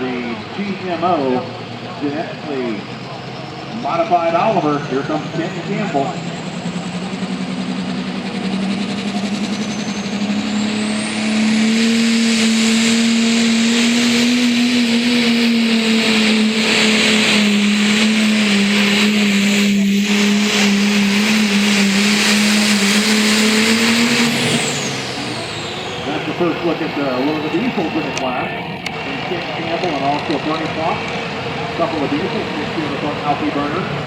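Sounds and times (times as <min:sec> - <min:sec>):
high whine: 0:00.0 - 0:34.0
tractor engine running flat out: 0:00.0 - 0:34.0.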